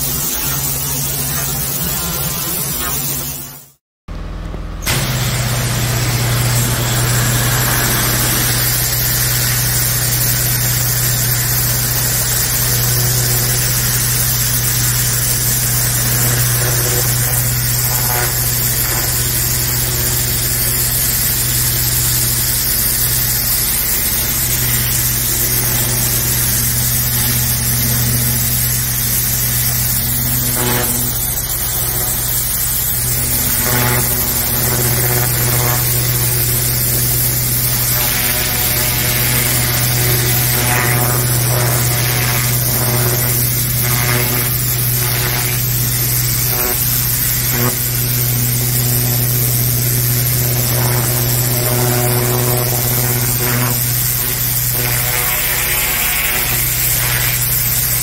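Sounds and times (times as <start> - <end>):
water jet hissing on concrete: 0.0 - 3.8, 4.9 - 58.0
pressure washer motor humming: 0.0 - 58.0.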